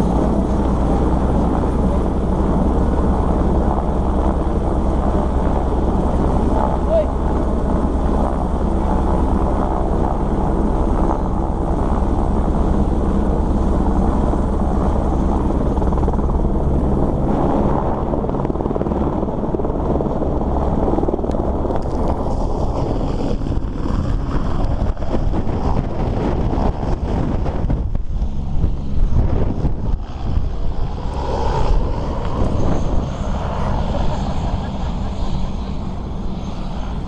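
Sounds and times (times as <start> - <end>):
helicopter rotor beat: 0.0 - 37.0
rotor downwash buffeting microphone: 0.0 - 37.0.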